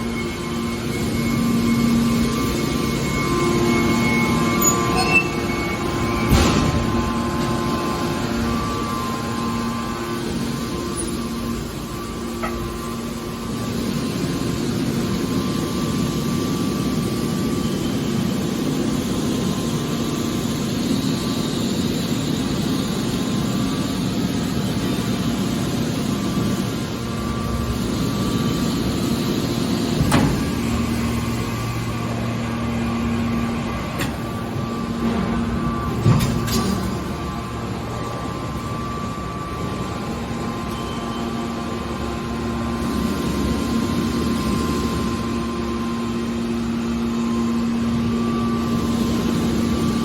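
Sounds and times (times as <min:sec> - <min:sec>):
hydraulic baler motor hum: 0:00.0 - 0:17.0, 0:22.3 - 0:50.0.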